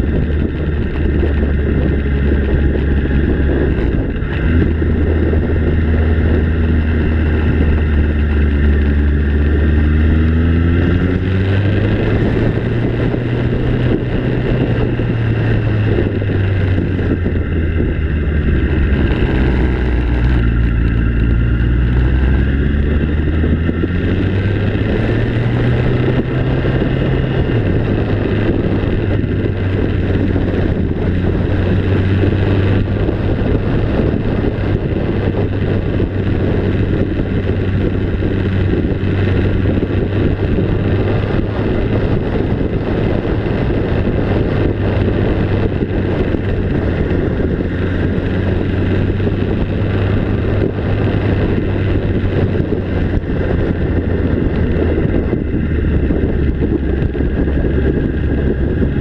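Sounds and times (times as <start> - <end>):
engine running steadily: 0.0 - 59.0
wind and travel noise: 0.0 - 59.0.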